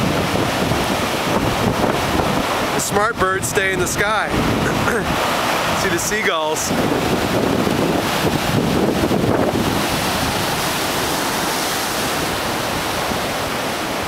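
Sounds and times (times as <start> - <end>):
surf breaking on rocks: 0.0 - 14.0
wind buffeting microphone: 0.0 - 14.0.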